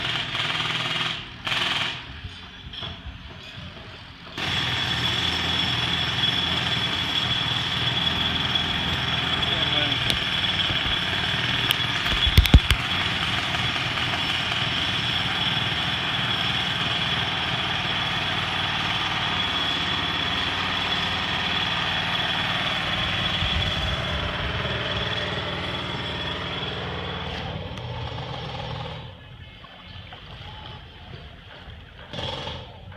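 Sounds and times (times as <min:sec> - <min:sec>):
construction machinery running: 0:00.0 - 0:32.9.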